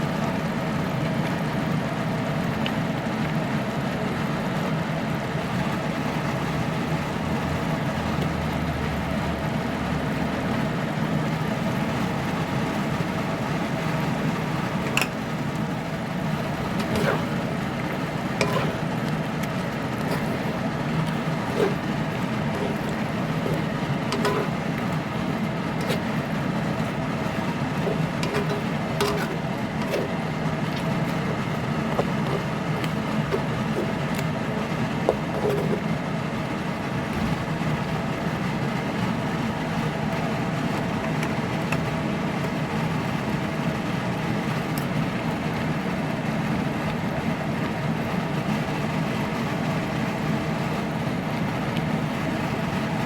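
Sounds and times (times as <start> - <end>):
range hood fan humming: 0.0 - 53.0.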